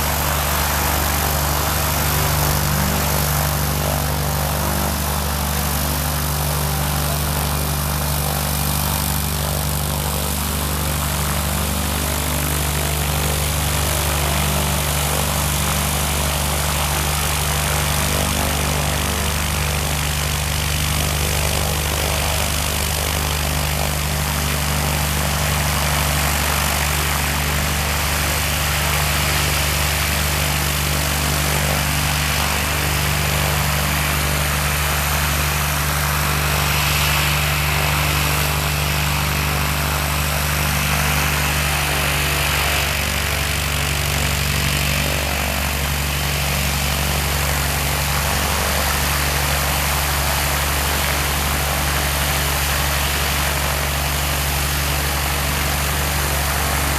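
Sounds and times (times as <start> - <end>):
aircraft piston engine idling: 0.0 - 56.9.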